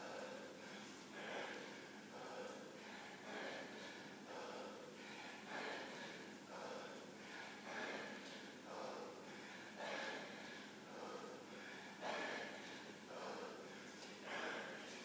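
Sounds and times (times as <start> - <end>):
man breathing hard: 0.0 - 15.0.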